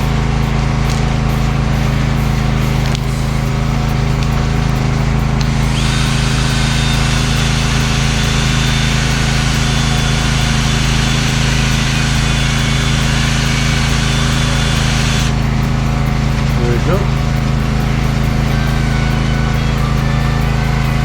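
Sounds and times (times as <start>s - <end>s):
power sander motor hum: 0.8s - 19.2s
sander pad hissing on surface: 0.9s - 19.3s.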